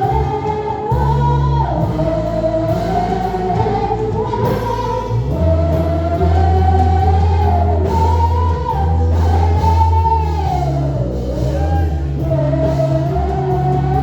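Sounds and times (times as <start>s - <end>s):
bass: 0.0s - 14.0s
guitar: 0.0s - 14.0s
voices singing gospel: 0.0s - 14.0s.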